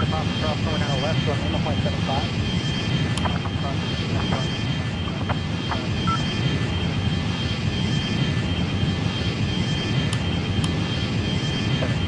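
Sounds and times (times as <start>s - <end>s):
aircraft engine rumble: 0.0s - 12.0s
high engine whine: 0.0s - 12.0s.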